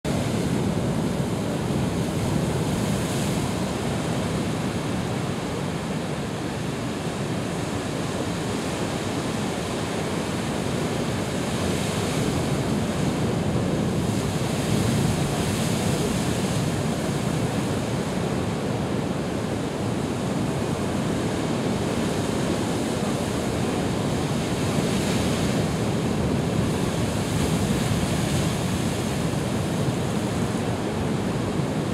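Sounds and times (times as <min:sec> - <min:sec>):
ocean surf crashing on rocks: 0:00.1 - 0:31.9.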